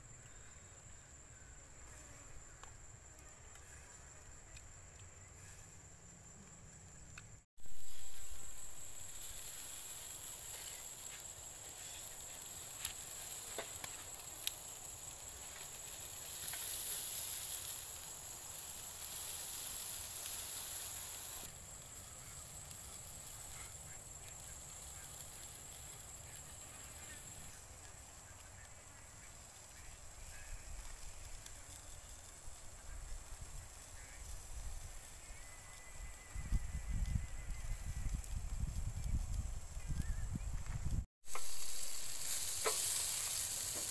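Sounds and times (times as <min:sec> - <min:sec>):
chicken sizzling on a grill: 0:00.0 - 0:43.9.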